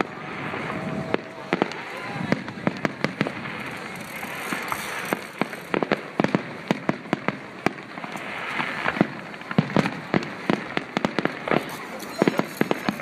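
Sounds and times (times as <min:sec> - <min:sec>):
continuous background noise: 0:00.0 - 0:13.0
fireworks bursting with sharp bangs: 0:00.0 - 0:13.0.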